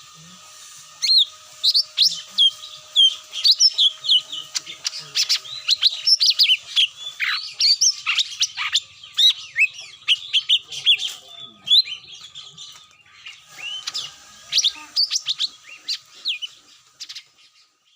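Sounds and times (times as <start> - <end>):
bird chirps and whistles: 1.0 - 12.3, 13.2 - 17.3.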